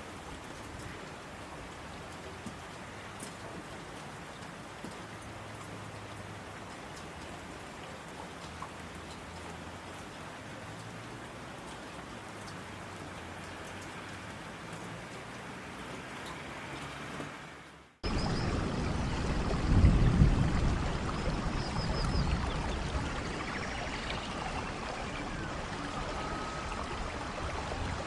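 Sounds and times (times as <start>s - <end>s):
raindrops striking surfaces: 0.0s - 28.0s
steady rain falling: 0.0s - 28.0s.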